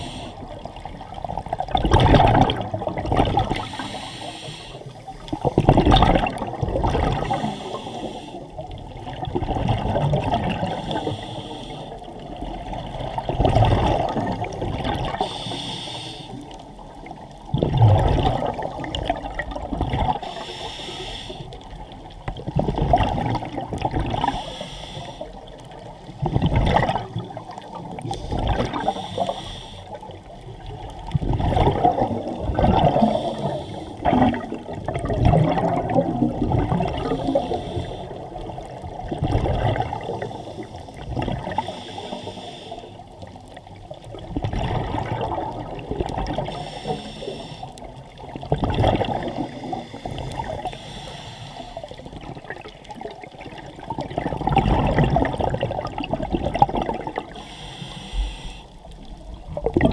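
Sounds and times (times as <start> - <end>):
scuba regulator exhaust bubbles: 0.0 - 59.9.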